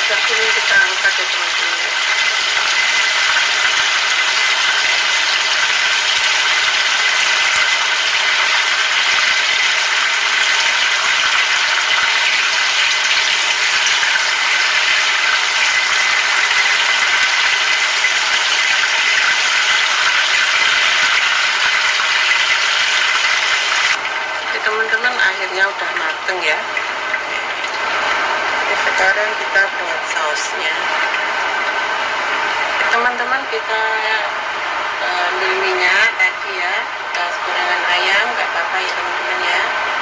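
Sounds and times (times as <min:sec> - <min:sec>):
chicken deep-frying in oil: 0:00.0 - 0:40.0.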